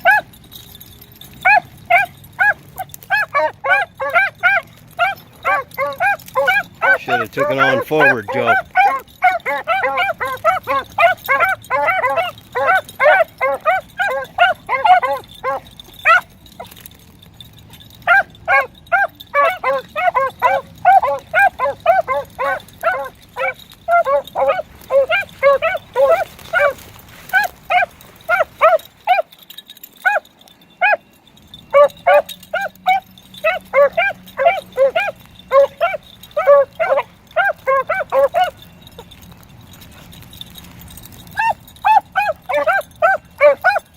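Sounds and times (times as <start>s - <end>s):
hounds baying: 0.0s - 43.9s.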